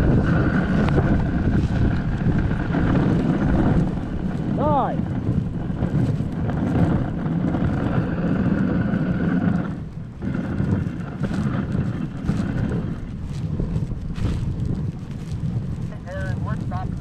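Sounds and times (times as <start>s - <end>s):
sled runners scraping on snow: 0.0s - 17.0s
wind buffeting microphone: 0.0s - 17.0s.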